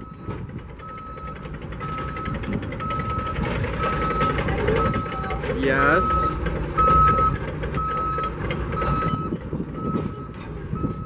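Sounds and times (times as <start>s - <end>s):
back-up alarm beeping: 0.0s - 11.0s
diesel machinery running: 0.0s - 11.0s.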